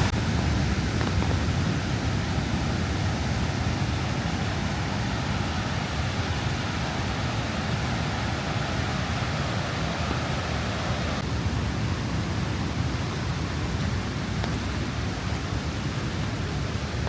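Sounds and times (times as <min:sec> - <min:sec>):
water rushing over falls: 0:00.0 - 0:17.0.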